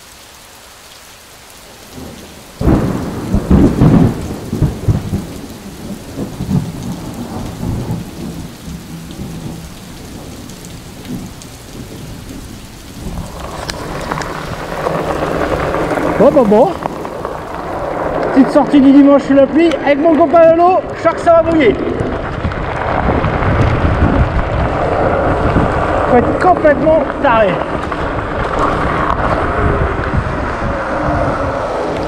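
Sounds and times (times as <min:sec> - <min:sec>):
steady rain: 0:00.0 - 0:32.0
thunder clap and rumble: 0:01.8 - 0:32.0.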